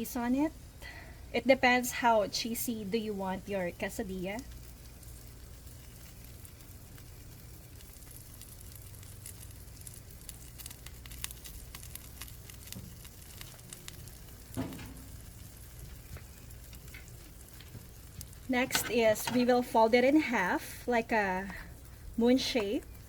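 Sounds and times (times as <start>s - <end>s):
faint crackles: 0.0s - 23.0s
tortilla sizzling in a pan: 2.5s - 23.0s.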